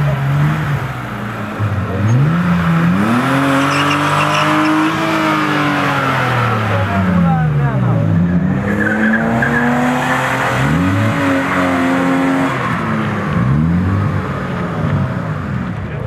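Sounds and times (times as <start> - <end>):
tyres squealing on asphalt: 0.0 - 14.2
car engine revving: 0.0 - 16.0.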